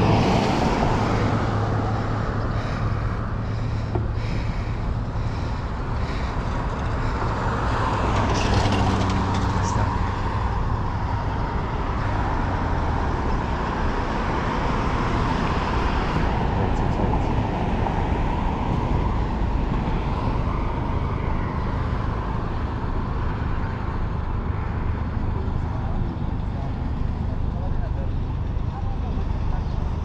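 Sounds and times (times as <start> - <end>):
wind rushing on microphone: 0.0 - 25.2
bicycle tyre and road noise: 0.0 - 30.0.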